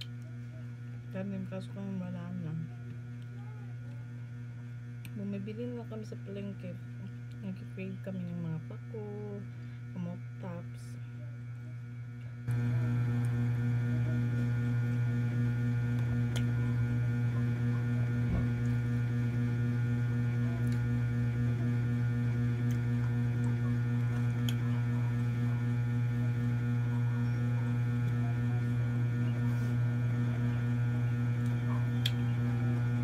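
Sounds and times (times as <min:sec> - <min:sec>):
steady electrical hum: 0:00.0 - 0:33.0.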